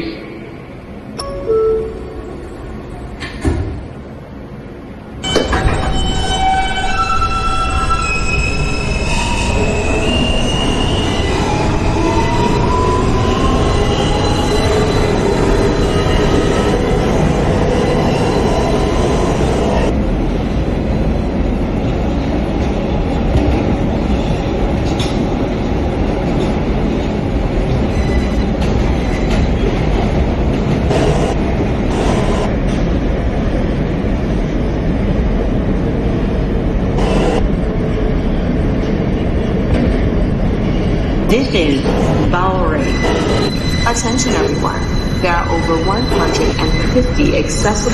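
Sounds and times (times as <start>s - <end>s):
subway wheels rumbling on rail: 0.0s - 1.2s, 1.8s - 47.9s.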